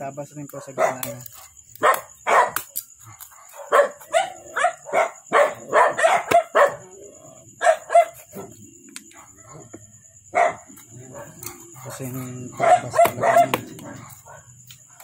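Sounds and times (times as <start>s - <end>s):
dog barking: 0.6s - 15.0s.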